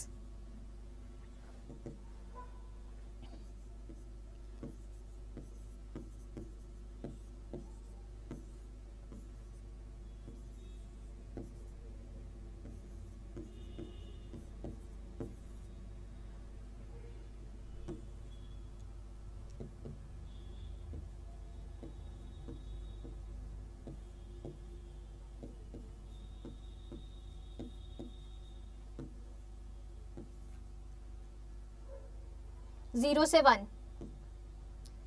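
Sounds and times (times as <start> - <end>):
steady low hum: 0.0 - 35.0
stylus tapping and scratching on screen: 1.2 - 2.5, 3.2 - 16.1, 17.7 - 30.9, 33.0 - 35.0.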